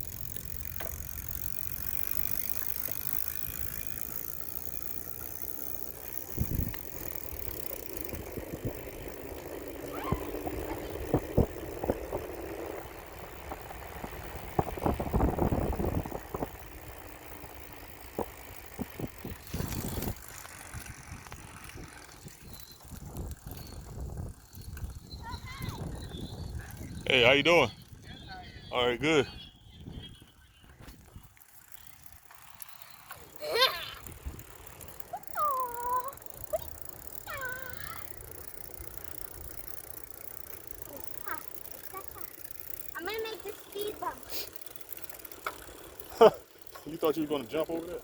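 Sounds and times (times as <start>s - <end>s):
bicycle rattles and knocks: 0.0s - 28.4s, 30.5s - 48.0s
bicycle tyres rolling: 0.0s - 48.0s.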